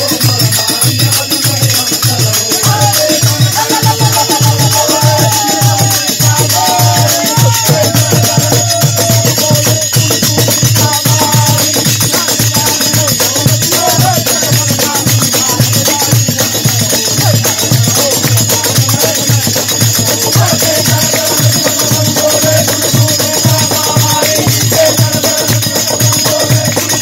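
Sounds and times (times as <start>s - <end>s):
group of men singing: 0.0s - 27.0s
hand drum beating fast rhythm: 0.0s - 27.0s.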